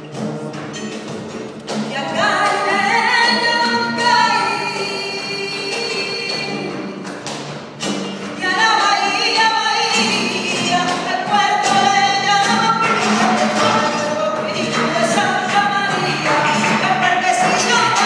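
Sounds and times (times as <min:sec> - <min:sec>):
acoustic ensemble with double bass: 0:00.0 - 0:18.0.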